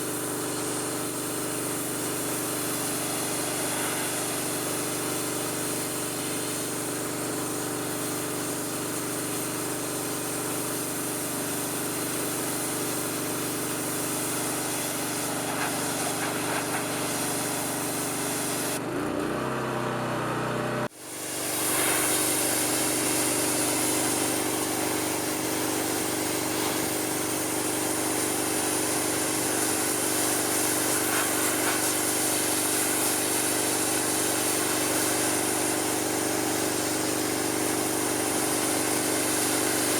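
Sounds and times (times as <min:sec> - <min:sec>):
water spray hissing: 0:00.0 - 0:18.8, 0:21.0 - 0:39.9
pressure washer engine running: 0:00.0 - 0:39.9.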